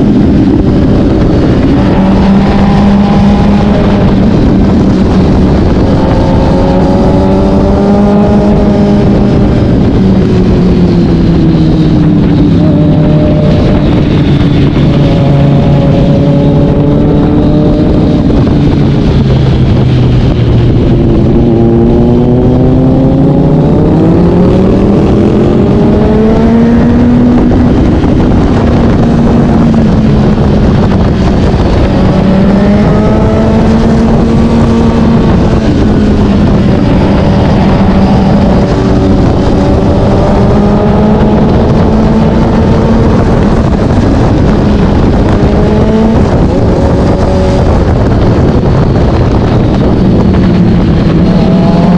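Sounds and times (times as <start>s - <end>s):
motorcycle engine revving: 0.0s - 51.9s
wind rumble: 0.0s - 51.9s.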